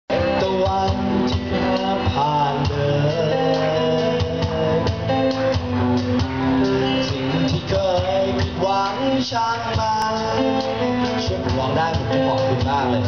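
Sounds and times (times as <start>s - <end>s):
live band with guitar: 0.1s - 13.0s.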